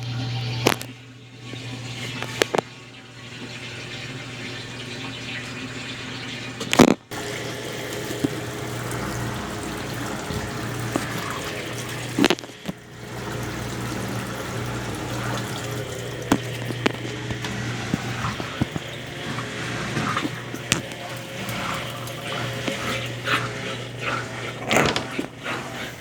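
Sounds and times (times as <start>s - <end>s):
washing machine motor hum: 0.0s - 26.0s
water sloshing in washing machine: 0.0s - 26.0s.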